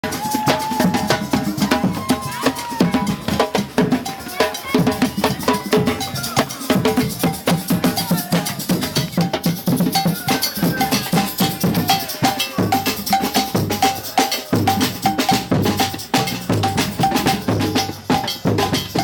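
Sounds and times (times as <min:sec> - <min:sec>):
percussion-heavy music: 0:00.0 - 0:19.0.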